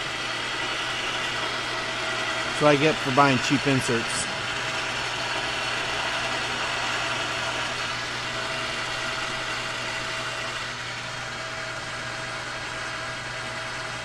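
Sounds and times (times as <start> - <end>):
metal lathe humming: 0.0 - 13.5.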